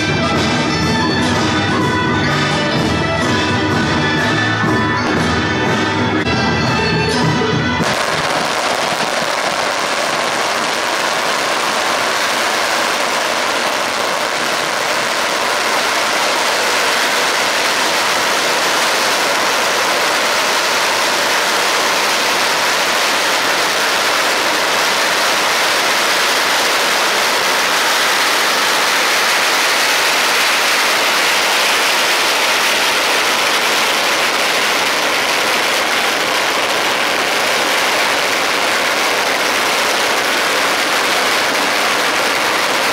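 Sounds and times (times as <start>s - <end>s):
firecrackers crackling: 0.0s - 42.9s.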